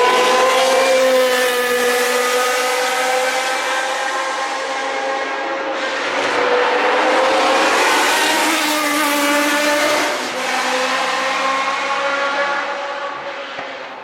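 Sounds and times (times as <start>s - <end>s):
racing car engine passing: 0.0s - 13.9s.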